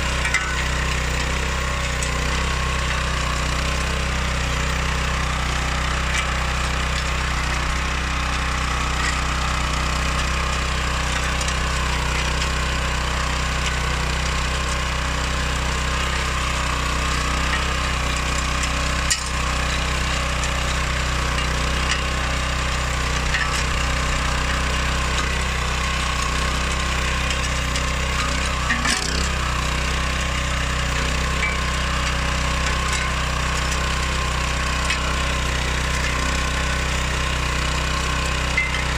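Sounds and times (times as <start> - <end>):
motor hoe engine clattering: 0.0 - 38.9.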